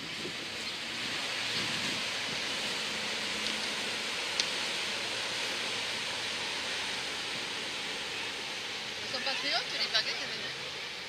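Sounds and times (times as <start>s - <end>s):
boat wake water rushing: 0.0s - 11.0s.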